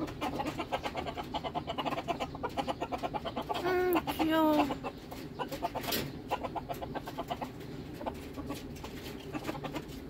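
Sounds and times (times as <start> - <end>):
hen clucking softly: 0.0 - 10.0.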